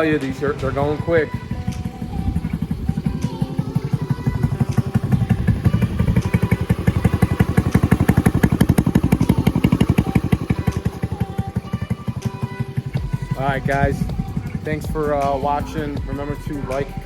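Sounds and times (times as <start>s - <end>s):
motorcycle exhaust beats: 0.0s - 17.0s.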